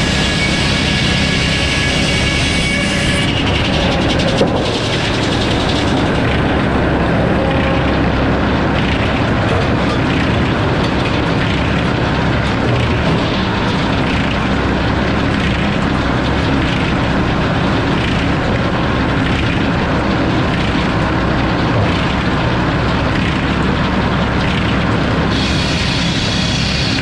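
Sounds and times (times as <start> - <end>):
sawmill saw drone: 0.0 - 27.0.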